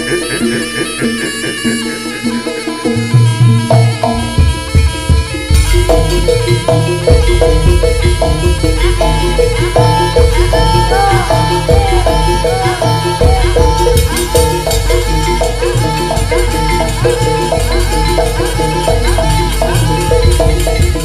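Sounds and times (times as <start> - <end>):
metallophone melody: 0.0 - 21.0
rattling percussion: 0.0 - 21.0
drums: 2.9 - 21.0.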